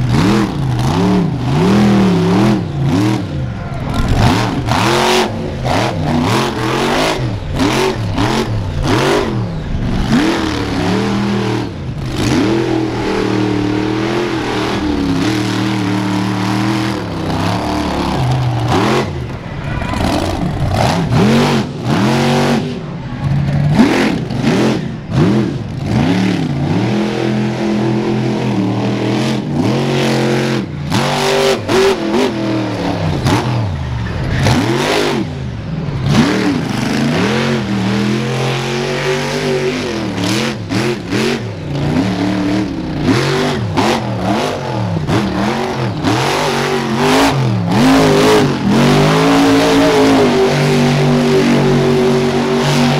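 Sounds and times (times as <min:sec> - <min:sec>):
monster truck engine revving: 0:00.0 - 0:52.9.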